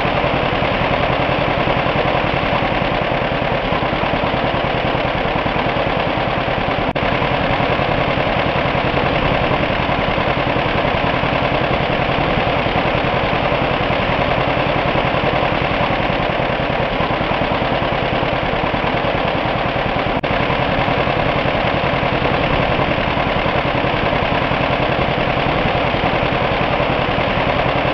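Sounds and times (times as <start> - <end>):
engine idling: 0.0 - 27.9.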